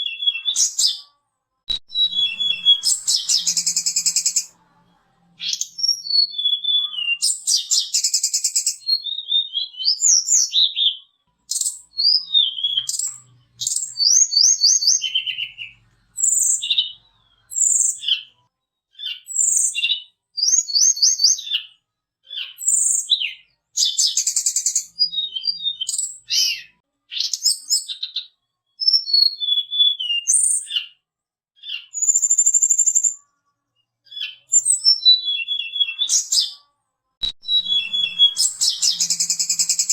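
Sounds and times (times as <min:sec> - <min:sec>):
songbird whistling and trilling: 0:00.0 - 0:01.0, 0:01.7 - 0:04.5, 0:05.4 - 0:18.3, 0:19.0 - 0:30.9, 0:31.6 - 0:33.2, 0:34.1 - 0:36.6, 0:37.2 - 0:39.9.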